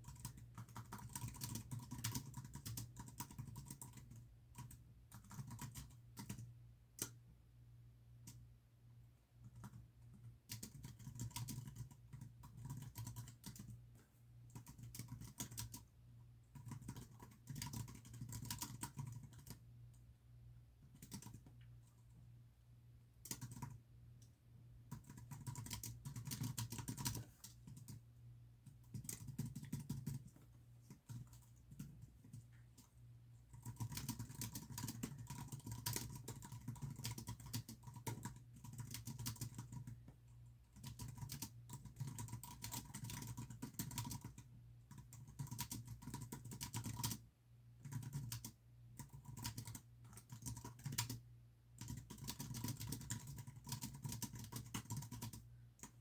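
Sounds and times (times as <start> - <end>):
typing on computer keyboard: 0.0 - 7.2, 9.4 - 13.8, 14.5 - 15.9, 16.5 - 20.0, 20.8 - 22.1, 23.2 - 24.3, 24.9 - 28.0, 28.6 - 32.9, 33.5 - 47.2, 47.8 - 56.0.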